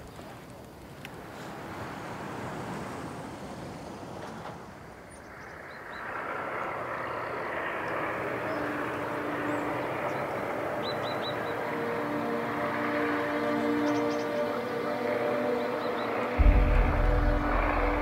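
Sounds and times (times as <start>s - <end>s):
distant heavy vehicle engines: 3.0s - 18.0s.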